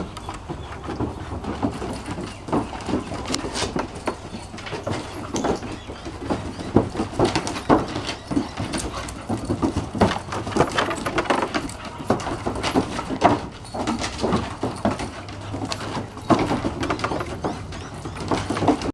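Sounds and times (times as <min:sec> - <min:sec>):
dog claws clicking on wooden deck: 0:00.0 - 0:18.9.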